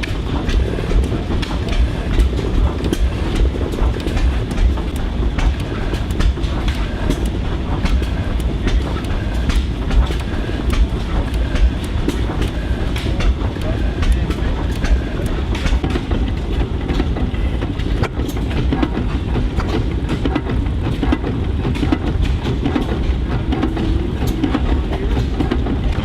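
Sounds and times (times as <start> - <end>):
machinery clattering: 0.0 - 26.0
machinery low rumble: 0.0 - 26.0.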